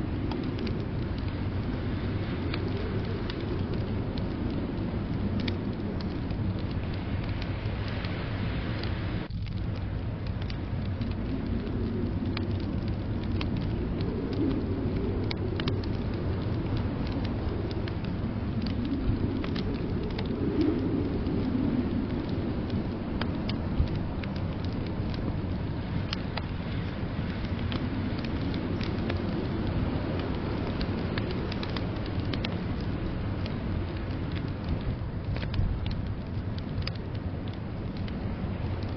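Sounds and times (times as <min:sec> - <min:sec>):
blizzard wind rumble: 0:00.0 - 0:38.9
fire popping: 0:00.0 - 0:38.9
wood fire crackling: 0:00.0 - 0:38.9.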